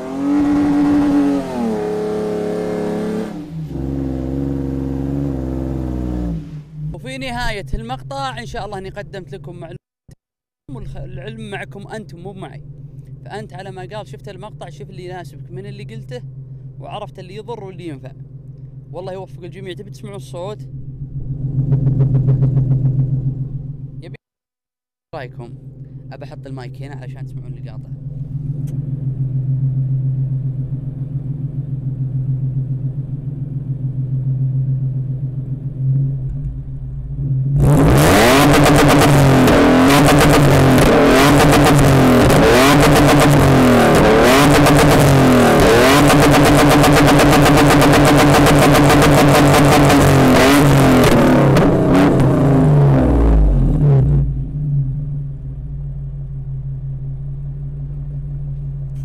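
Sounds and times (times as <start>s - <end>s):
car engine idling and revving: 0.0s - 9.8s, 10.7s - 24.2s, 25.2s - 59.0s.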